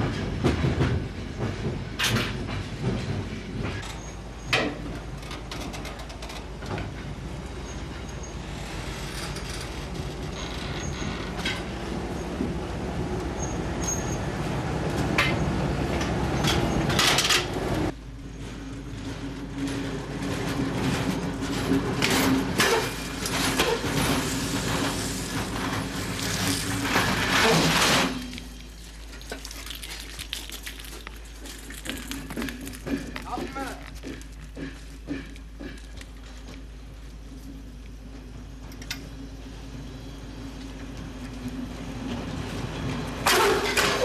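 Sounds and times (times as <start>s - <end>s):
freight wagons rumbling: 0.0s - 44.0s.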